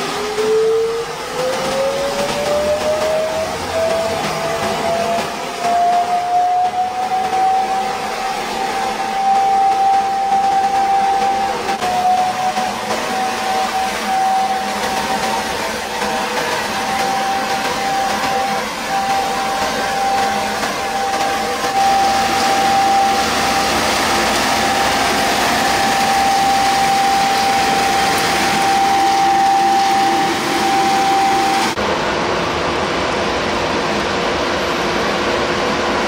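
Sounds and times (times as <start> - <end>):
road sweeper machinery rushing: 0.0 - 36.0
steady mechanical whine: 0.0 - 36.0.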